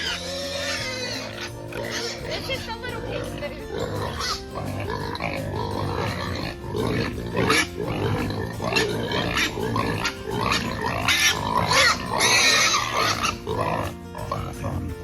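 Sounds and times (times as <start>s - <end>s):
pigs squealing and grunting: 0.0s - 15.0s.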